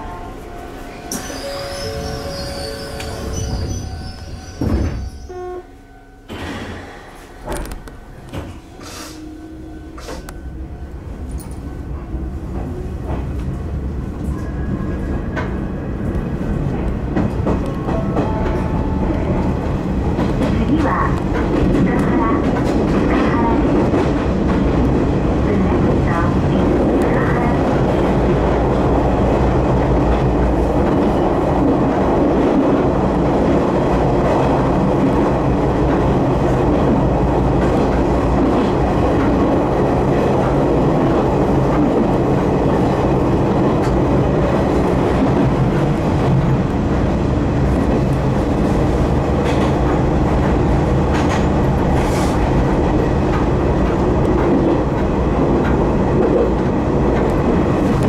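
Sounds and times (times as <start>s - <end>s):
train rolling noise: 0.0s - 58.0s.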